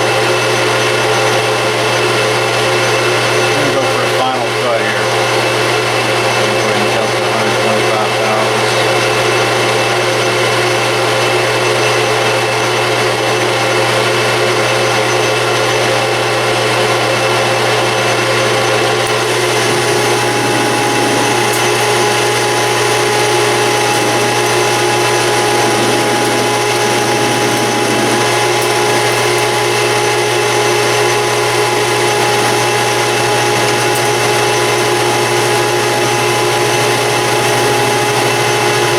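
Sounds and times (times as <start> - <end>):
metal lathe motor hum and whine: 0.0 - 38.9.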